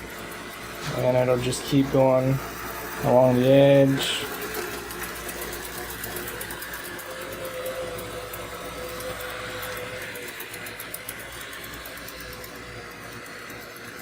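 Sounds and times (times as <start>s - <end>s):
robot vacuum motor hum: 0.0s - 14.0s.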